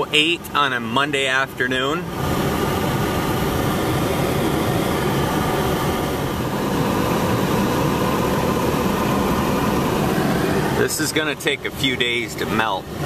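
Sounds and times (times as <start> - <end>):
car engine: 0.0 - 13.0
road noise inside car: 0.0 - 13.0.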